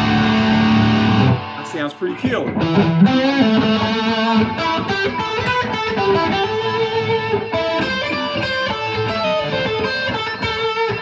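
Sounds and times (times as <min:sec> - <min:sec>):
electric guitar lead line: 0:00.0 - 0:11.0.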